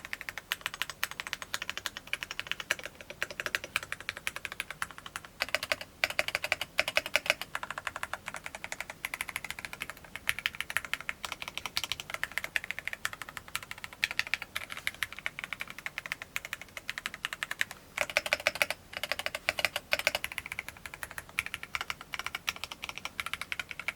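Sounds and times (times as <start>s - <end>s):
mechanical keyboard typing: 0.0s - 23.9s.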